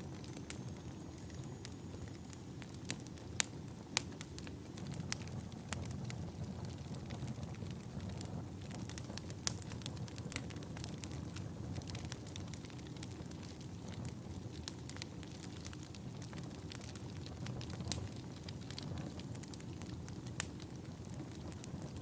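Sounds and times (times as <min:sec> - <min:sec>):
fire crackles and pops: 0:00.0 - 0:22.0
fire rumbling: 0:00.0 - 0:22.0.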